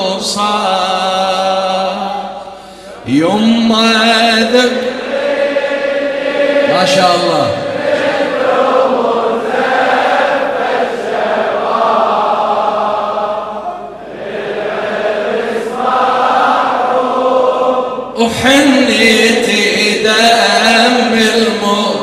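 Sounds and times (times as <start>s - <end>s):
men chanting a lament: 0.0s - 22.0s.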